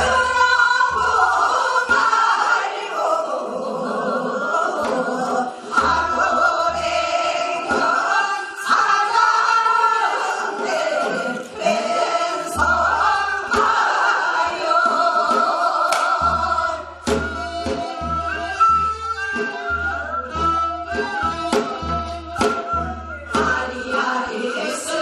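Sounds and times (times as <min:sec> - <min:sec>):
women singing folk song: 0:00.0 - 0:25.0.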